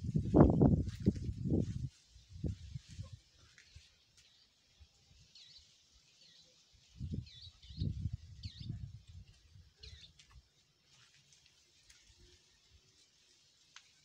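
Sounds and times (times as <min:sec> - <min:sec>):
small birds chirping: 0:02.5 - 0:13.8.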